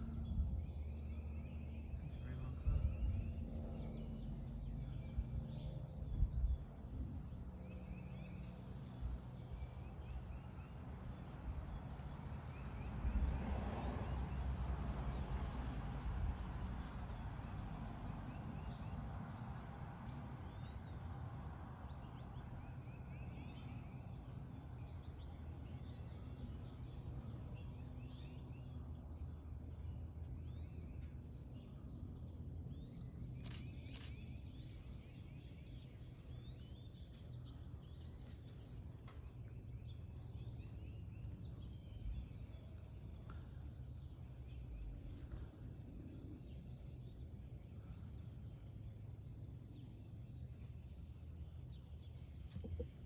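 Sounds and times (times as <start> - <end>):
birds chirping: 0.0 - 15.5, 21.9 - 53.0
steady low rumble: 0.0 - 21.6, 30.6 - 53.0.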